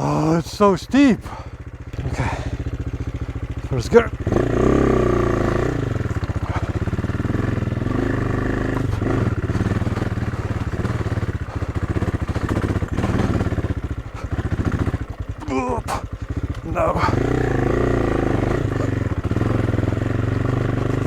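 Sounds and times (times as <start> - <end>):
single-cylinder engine chugging: 0.0 - 21.0.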